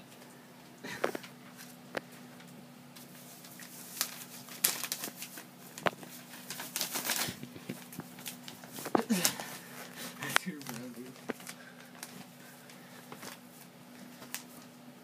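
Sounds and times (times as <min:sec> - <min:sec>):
puppy chewing crinkling sheet: 0:01.1 - 0:14.8.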